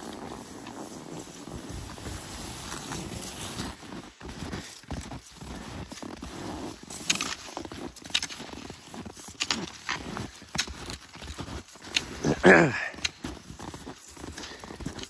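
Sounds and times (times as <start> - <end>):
skis crunching through snow: 0.0 - 15.0.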